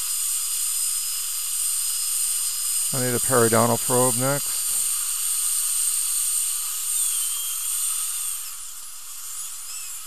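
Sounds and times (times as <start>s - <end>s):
dental drill hissing and whining: 0.0s - 10.0s.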